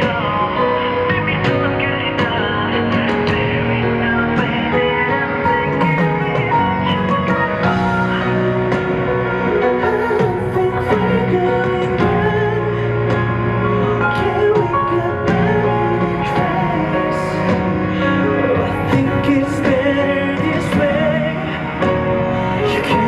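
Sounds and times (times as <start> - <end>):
live pop music over pa: 0.0 - 23.0
person singing: 0.0 - 23.0.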